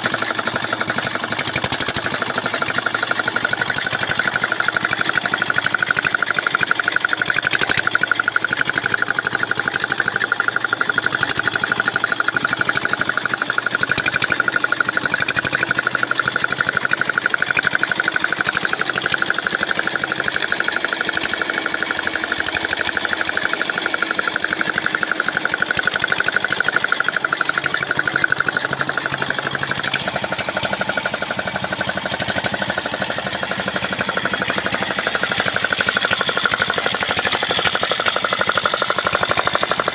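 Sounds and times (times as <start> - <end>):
small diesel engine knocking: 0.0 - 39.9.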